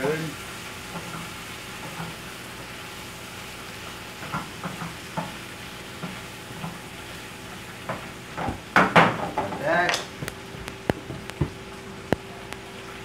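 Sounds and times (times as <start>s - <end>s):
bacon sizzling in a frying pan: 0.0s - 13.0s.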